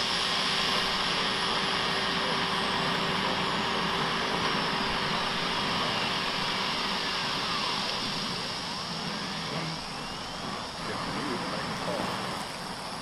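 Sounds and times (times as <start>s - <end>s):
steady rushing roar: 0.0s - 13.0s
faint gliding whistle: 1.8s - 12.5s.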